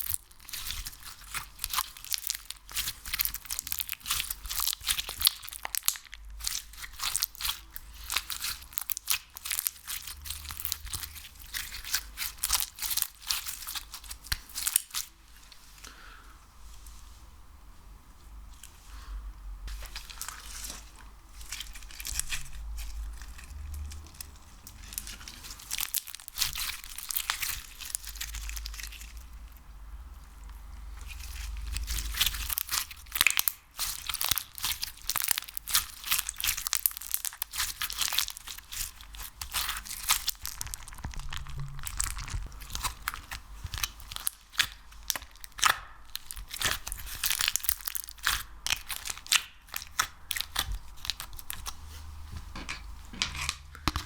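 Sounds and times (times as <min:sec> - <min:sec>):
sticky slime crackling and popping: 0:00.0 - 0:15.2, 0:19.7 - 0:54.0.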